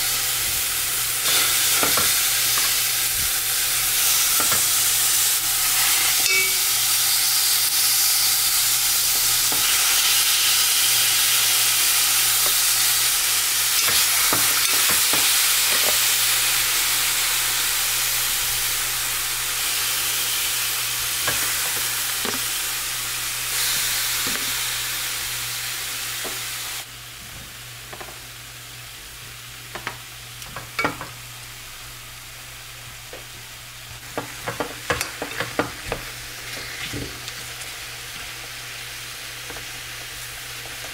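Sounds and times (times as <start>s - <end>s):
chicken sizzling in pot: 0.0s - 40.9s.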